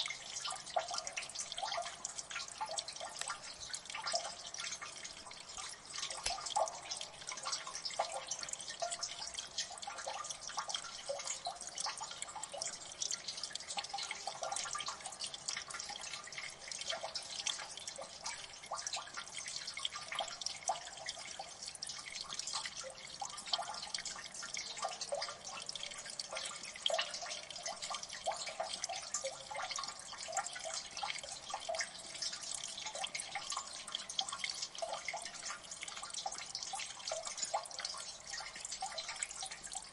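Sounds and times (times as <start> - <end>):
trickle of running water: 0.0 - 39.9
water drips plinking: 0.0 - 39.9.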